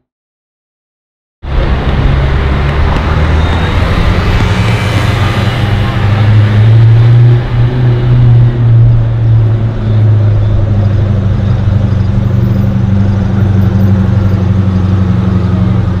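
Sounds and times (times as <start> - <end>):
car engine droning: 1.4 - 16.0.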